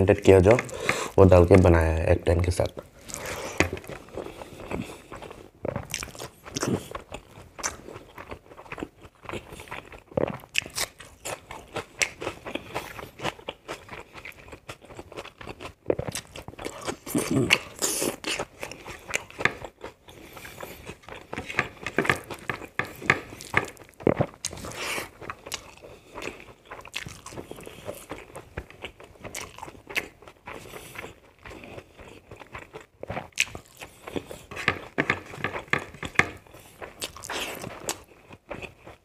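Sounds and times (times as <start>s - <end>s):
man chewing food: 0.0s - 1.6s, 2.6s - 39.0s.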